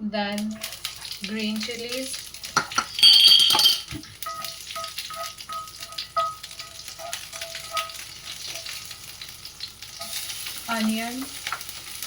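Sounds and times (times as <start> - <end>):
chilies sizzling in hot oil: 0.2 - 12.0.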